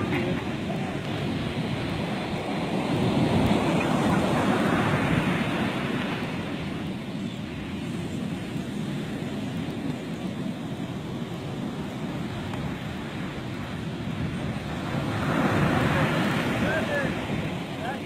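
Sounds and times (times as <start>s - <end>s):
surf washing up a beach: 0.0s - 18.0s
wind on microphone: 0.0s - 18.0s.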